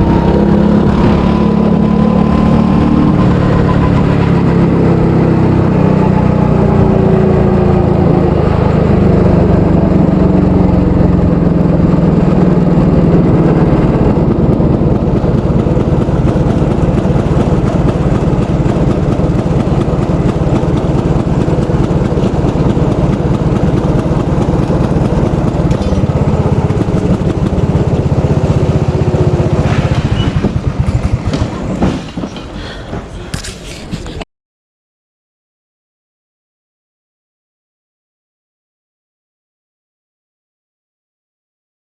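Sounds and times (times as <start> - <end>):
go-kart engine running: 0.0 - 34.2.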